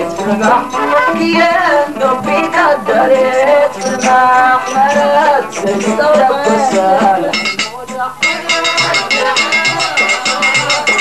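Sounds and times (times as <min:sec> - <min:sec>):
man singing ornamented melody: 0:00.0 - 0:11.0
string and percussion accompaniment: 0:00.0 - 0:11.0.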